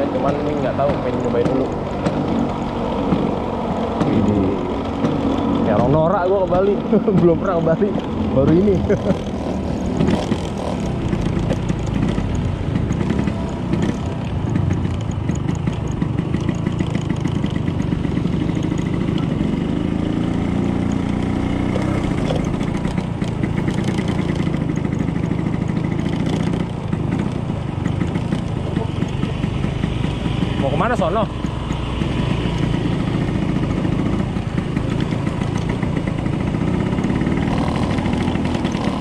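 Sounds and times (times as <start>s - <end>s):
scooter engine running: 0.0s - 39.0s.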